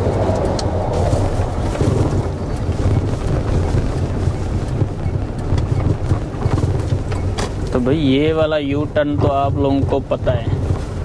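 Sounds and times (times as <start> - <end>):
road noise: 0.0 - 11.0
truck engine rumble: 0.0 - 11.0
wind noise: 0.0 - 11.0.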